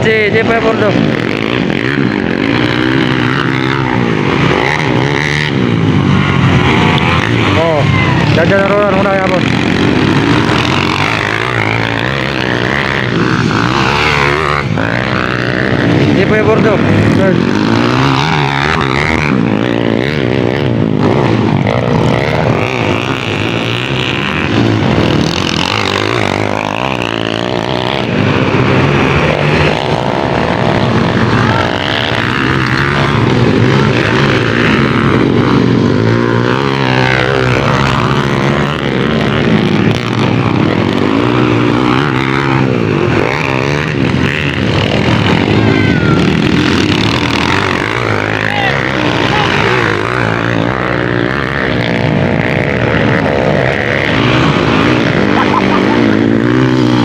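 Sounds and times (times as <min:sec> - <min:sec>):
motocross motorcycles revving: 0:00.0 - 0:57.0.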